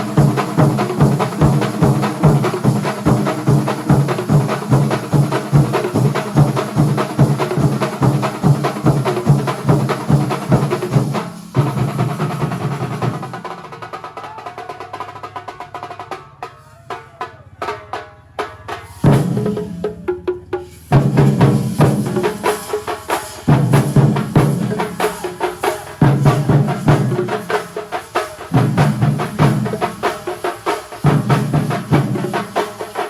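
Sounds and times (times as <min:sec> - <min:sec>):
percussion ensemble drumming: 0:00.0 - 0:33.0.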